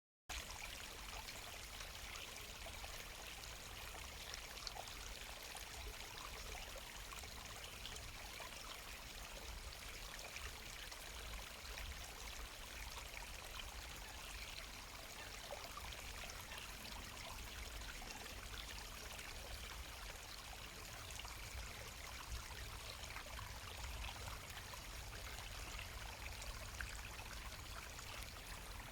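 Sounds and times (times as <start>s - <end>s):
trickling water: 0.3s - 28.9s.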